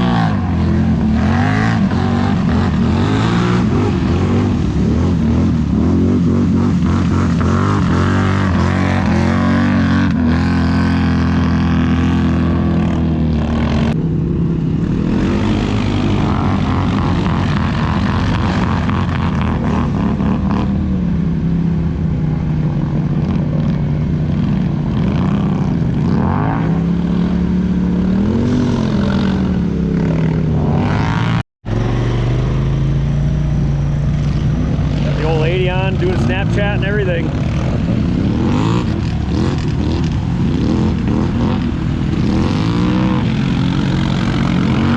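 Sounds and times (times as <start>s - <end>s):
off-road vehicle engine revving: 0.0s - 14.1s, 14.7s - 44.9s.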